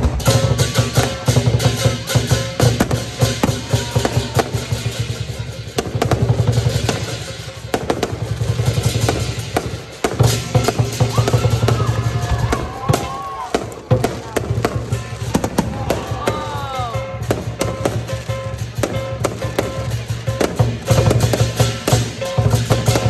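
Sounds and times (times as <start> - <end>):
large drum rolls: 0.0 - 23.0.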